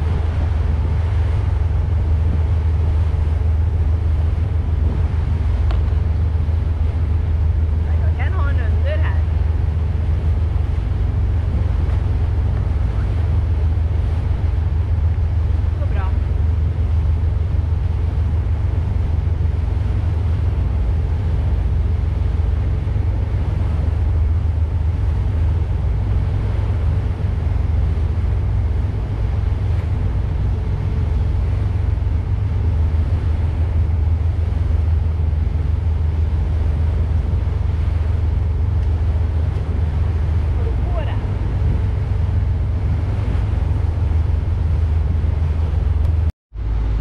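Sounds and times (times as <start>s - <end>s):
boat engines droning: 0.0s - 47.0s
wind noise on microphone: 0.0s - 47.0s.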